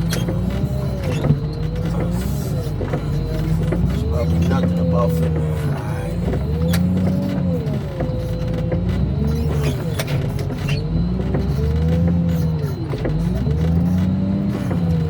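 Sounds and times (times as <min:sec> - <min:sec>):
diesel engine revving under load: 0:00.0 - 0:15.0.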